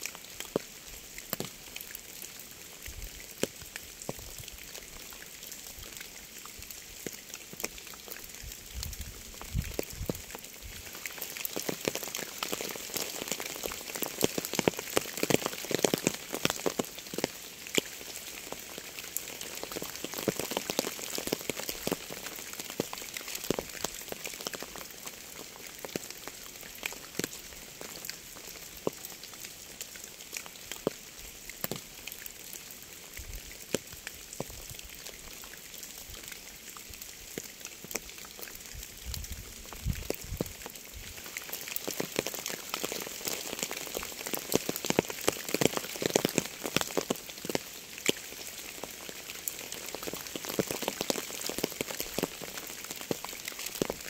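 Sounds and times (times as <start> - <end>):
rain falling: 0.0 - 54.0
raindrops ticking on surface: 0.0 - 54.0.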